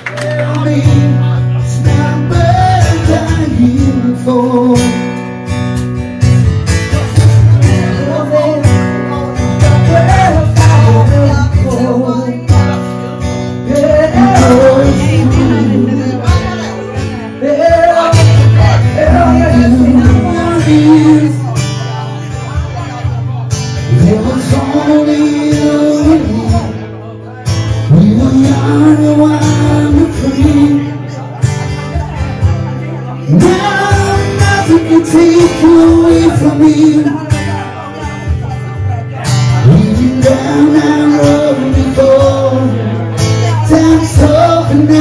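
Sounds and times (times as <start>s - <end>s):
person singing: 0.0s - 5.4s, 6.9s - 45.0s
bass line: 0.0s - 45.0s
strummed guitar: 0.0s - 45.0s.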